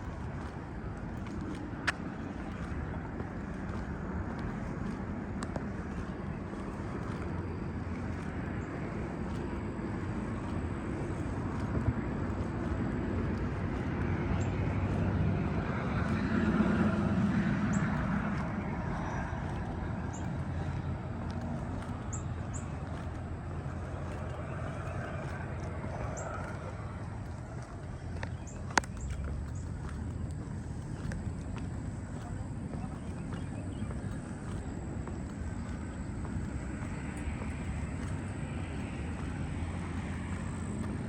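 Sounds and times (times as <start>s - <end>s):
steady background hum: 0.0s - 41.0s
vehicle passing: 0.0s - 41.0s.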